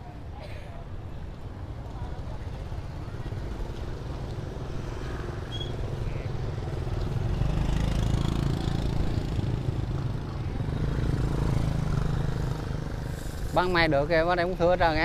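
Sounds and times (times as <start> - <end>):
street din: 0.0 - 13.8
motorbike engines rumbling: 0.0 - 15.0.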